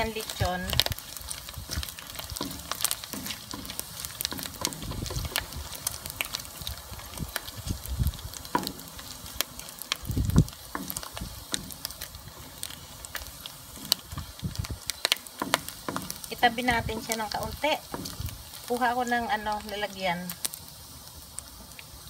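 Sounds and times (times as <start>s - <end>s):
pork sizzling and popping in fat: 0.0s - 22.0s
wooden spoon stirring in wok: 0.0s - 22.0s.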